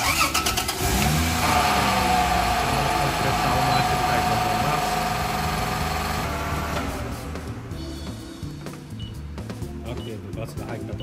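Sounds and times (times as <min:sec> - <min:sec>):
car engine cranking and idling: 0:00.0 - 0:09.6.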